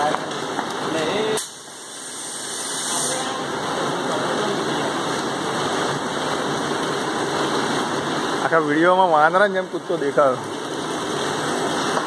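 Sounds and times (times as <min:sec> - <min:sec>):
hissing machine noise: 0:00.0 - 0:12.0.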